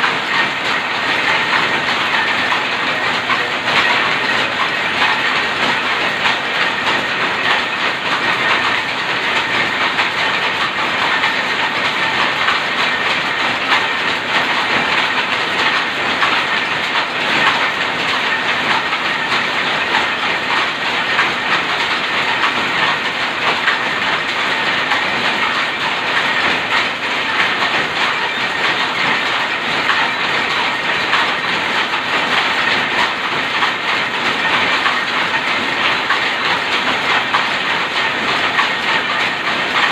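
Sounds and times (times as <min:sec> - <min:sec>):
loom clattering: 0:00.0 - 0:39.9
power looms running: 0:00.0 - 0:39.9.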